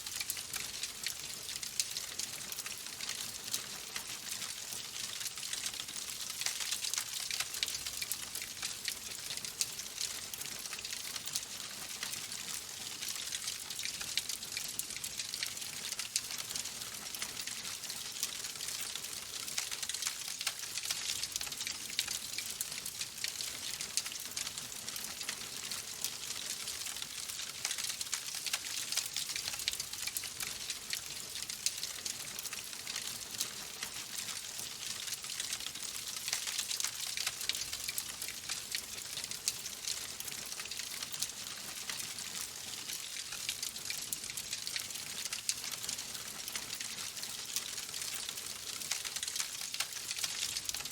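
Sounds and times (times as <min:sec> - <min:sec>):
logs crackling and popping: 0:00.1 - 0:50.9.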